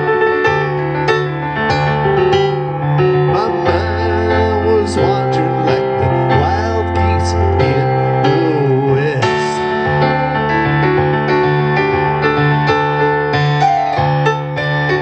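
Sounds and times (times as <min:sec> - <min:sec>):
electric keyboard playing: 0:00.0 - 0:15.0.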